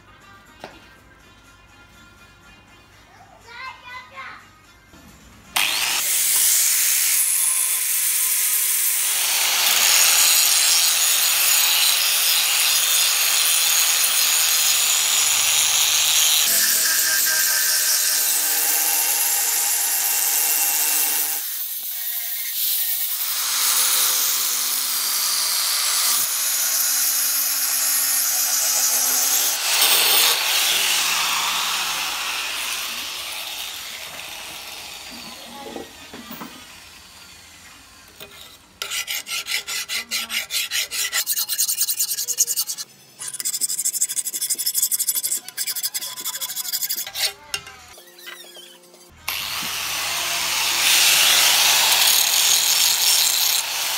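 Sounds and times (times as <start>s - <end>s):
angle grinder grinding metal: 5.6s - 53.9s.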